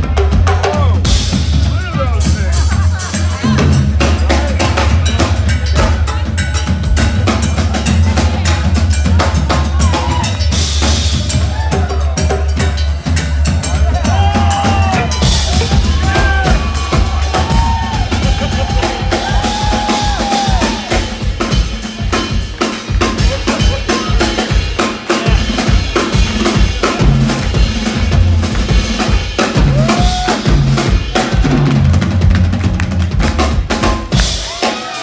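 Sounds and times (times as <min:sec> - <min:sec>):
drum kit played fast: 0:00.0 - 0:35.0.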